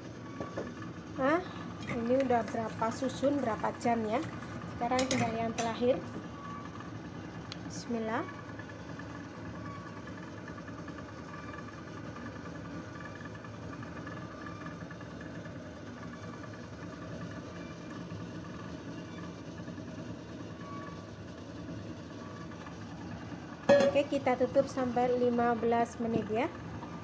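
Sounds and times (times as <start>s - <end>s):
steamer pot boiling: 0.0s - 27.0s.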